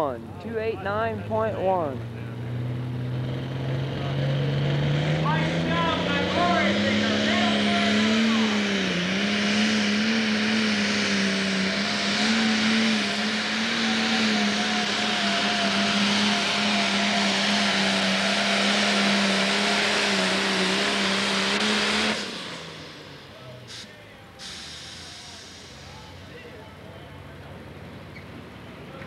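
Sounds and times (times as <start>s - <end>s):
tractor diesel engine at full throttle: 0.0s - 29.0s.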